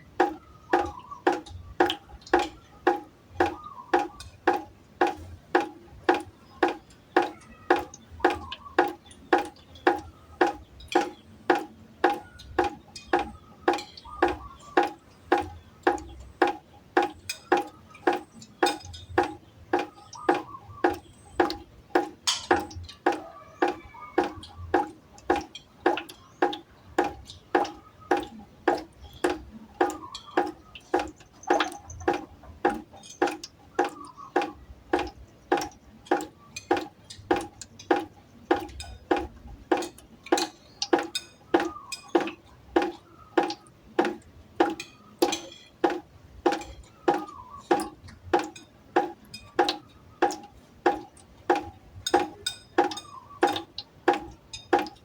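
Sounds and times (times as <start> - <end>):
water drops plinking into a pot: 0.0 - 55.0.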